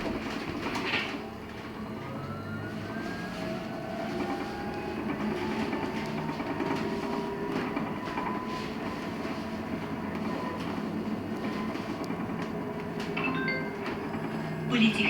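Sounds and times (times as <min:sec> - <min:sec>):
bus running noise: 0:00.0 - 0:15.0.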